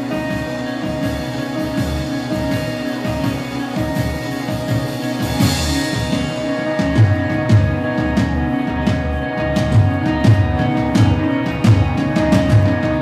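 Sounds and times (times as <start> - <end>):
drum kit beating: 0.0 - 13.0
guitar notes: 0.0 - 13.0.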